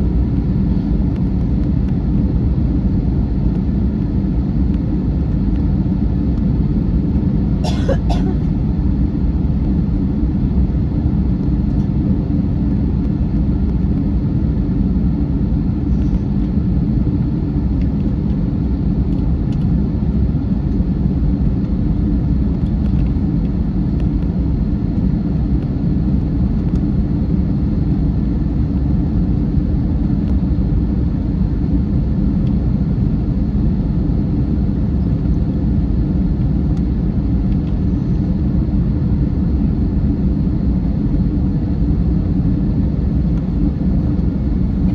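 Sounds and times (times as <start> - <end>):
jet engine rumble in cabin: 0.0 - 44.9.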